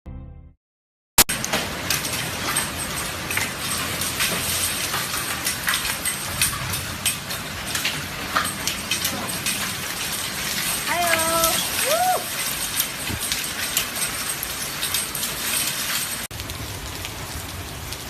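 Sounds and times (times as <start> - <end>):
hailstones striking hard surfaces: 1.3 - 18.0
rain hissing: 1.3 - 18.0.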